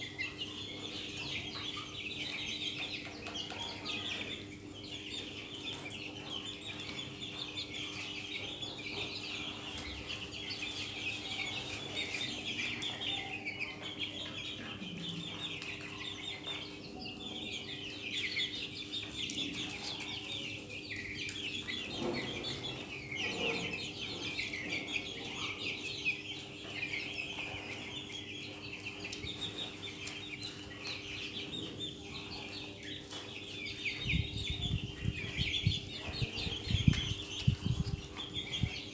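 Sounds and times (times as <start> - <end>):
chicken clucks: 0.0 - 38.9
chicks peeping: 0.0 - 38.9.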